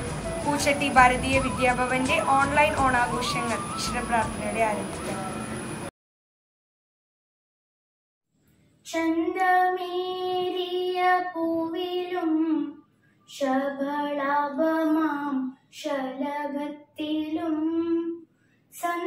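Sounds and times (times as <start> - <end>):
girl singing unaccompanied: 0.0 - 5.5, 8.8 - 19.0.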